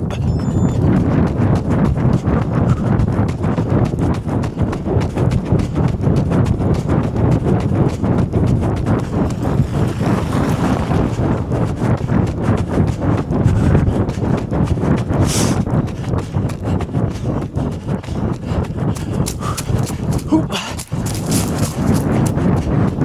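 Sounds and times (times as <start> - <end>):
running footsteps on ground: 0.0 - 23.0
steady low rumble: 0.0 - 23.0.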